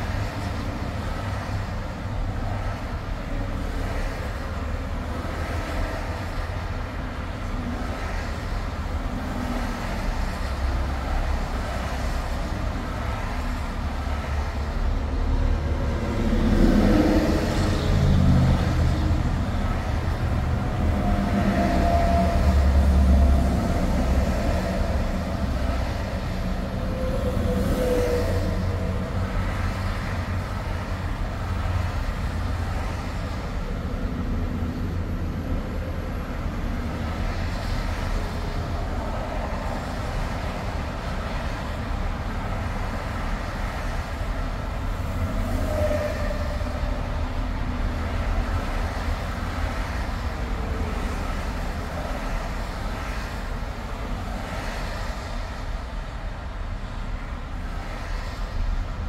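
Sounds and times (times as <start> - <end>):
car road noise on highway: 0.0 - 59.0.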